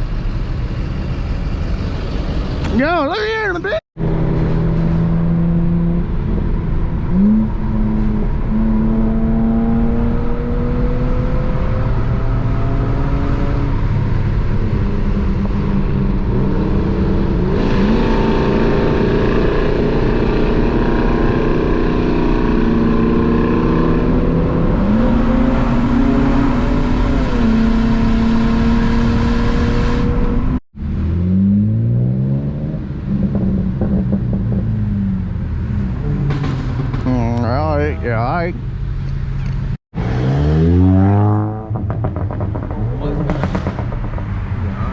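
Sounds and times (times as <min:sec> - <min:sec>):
car engine accelerating: 0:04.0 - 0:44.9.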